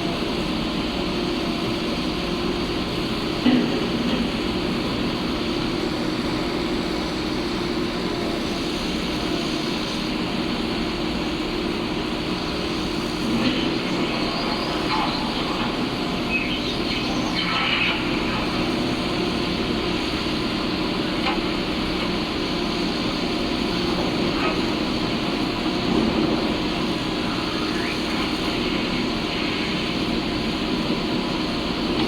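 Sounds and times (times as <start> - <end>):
diesel construction machinery running: 0.0 - 32.0.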